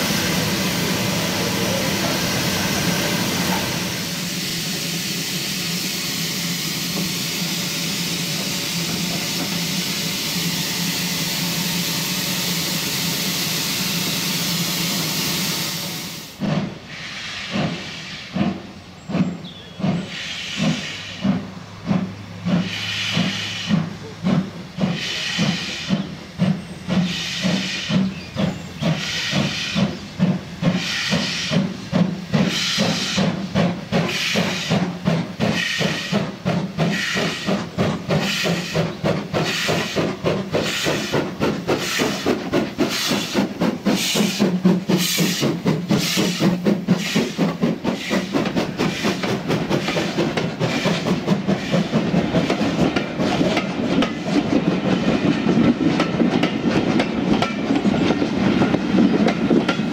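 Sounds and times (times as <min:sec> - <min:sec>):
steam hissing: 0:00.0 - 0:59.9
steam locomotive exhaust beats: 0:00.0 - 0:59.9.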